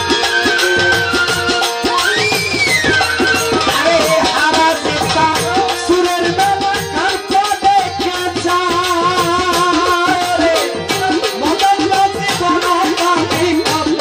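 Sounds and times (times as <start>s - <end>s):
busy drumming: 0.0s - 14.0s
sliding folk melody: 0.0s - 14.0s.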